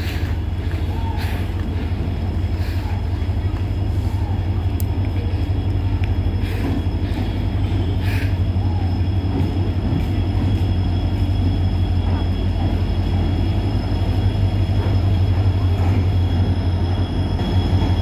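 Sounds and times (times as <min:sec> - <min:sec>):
locomotive engine drone: 0:00.0 - 0:18.0.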